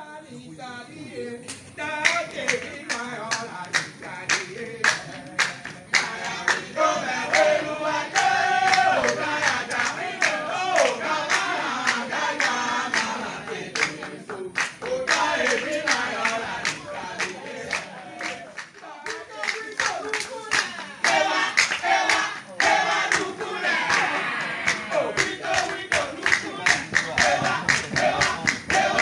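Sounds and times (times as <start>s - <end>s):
voices singing a chant: 0.0s - 29.0s
steady hand clapping: 1.5s - 29.0s.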